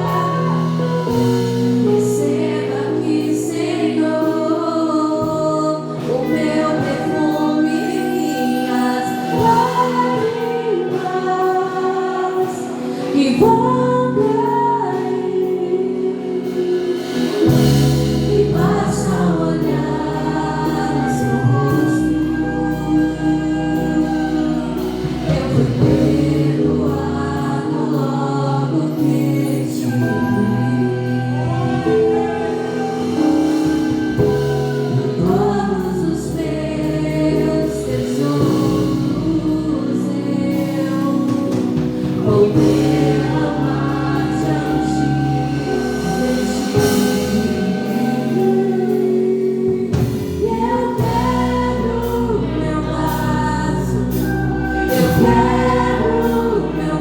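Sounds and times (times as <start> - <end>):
instrumental accompaniment with bass: 0.0 - 57.0
voices singing together: 0.0 - 57.0.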